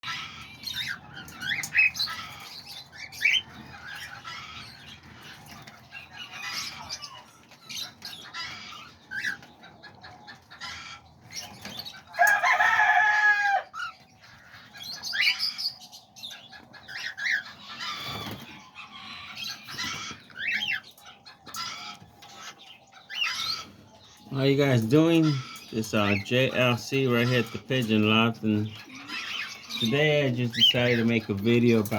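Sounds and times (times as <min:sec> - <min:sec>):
parrots chirping and chattering: 0:00.0 - 0:31.9.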